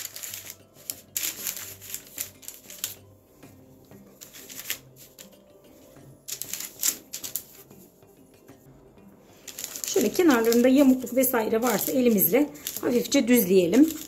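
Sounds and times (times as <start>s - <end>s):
parchment paper rustling: 0.0s - 3.0s, 4.1s - 7.8s, 9.3s - 14.0s.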